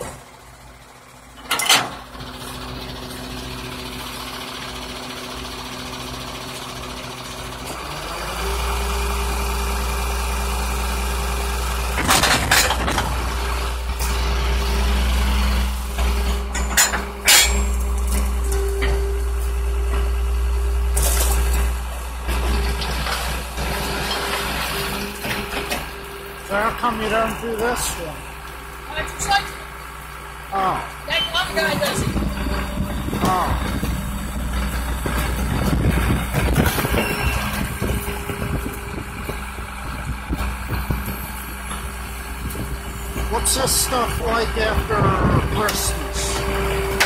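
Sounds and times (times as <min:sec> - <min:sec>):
garbage truck engine and hydraulics: 0:00.0 - 0:47.0
steady mechanical hum: 0:00.0 - 0:47.0.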